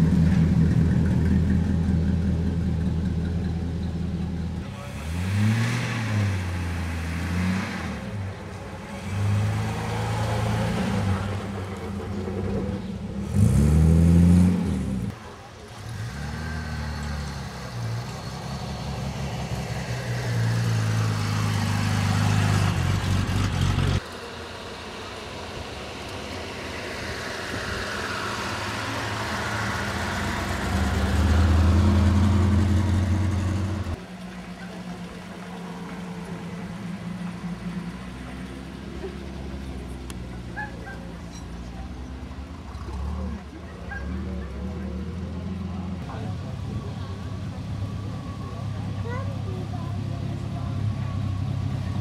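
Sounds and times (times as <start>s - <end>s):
car engines passing at low revs: 0.0s - 52.0s.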